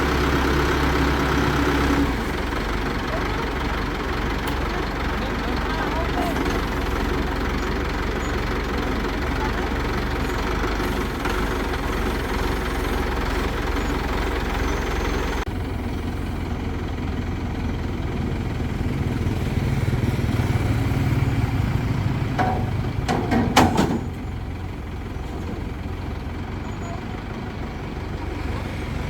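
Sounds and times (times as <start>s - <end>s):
crane engine running: 0.0s - 29.0s.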